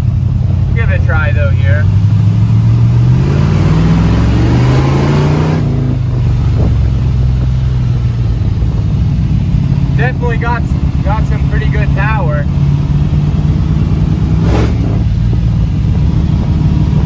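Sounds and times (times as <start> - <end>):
engine revving under full throttle: 0.7 - 17.0.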